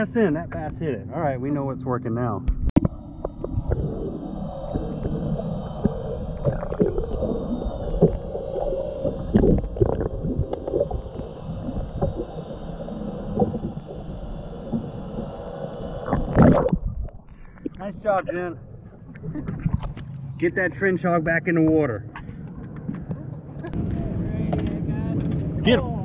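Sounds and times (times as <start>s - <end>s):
boat low rumble: 0.0s - 26.0s
faint steady hum: 0.0s - 26.0s.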